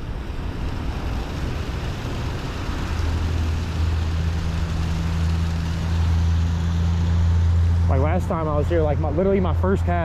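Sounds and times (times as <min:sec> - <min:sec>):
low engine hum: 0:00.0 - 0:10.0
outdoor rushing noise: 0:00.0 - 0:10.0.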